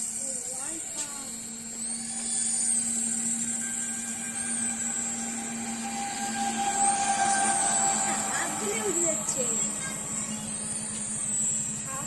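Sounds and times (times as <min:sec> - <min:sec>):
steady low hum: 0:00.0 - 0:12.0
toy aircraft motor whine: 0:00.0 - 0:12.0.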